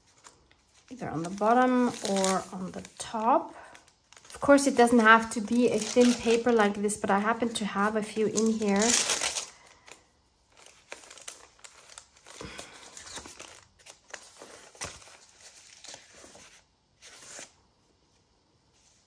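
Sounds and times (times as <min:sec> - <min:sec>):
paper pages rustling: 0:00.0 - 0:19.0.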